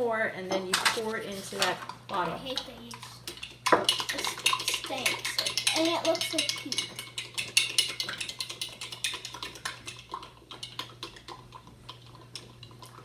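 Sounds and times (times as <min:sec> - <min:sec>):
spoon stirring in a cup: 0:00.5 - 0:13.0.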